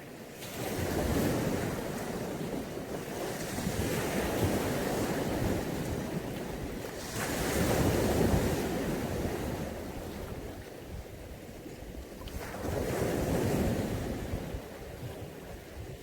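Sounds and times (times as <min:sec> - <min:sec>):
waves breaking on shore: 0:00.0 - 0:16.0.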